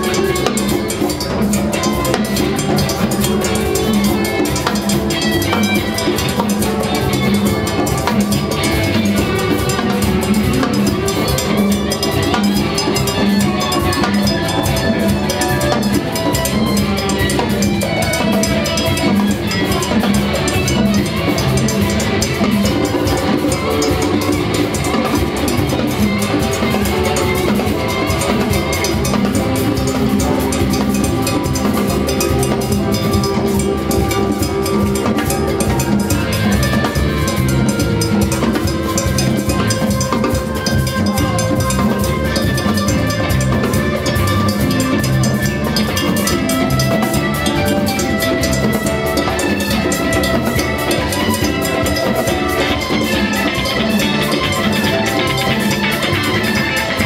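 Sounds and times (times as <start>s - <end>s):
live latin rock band: 0.0s - 57.0s.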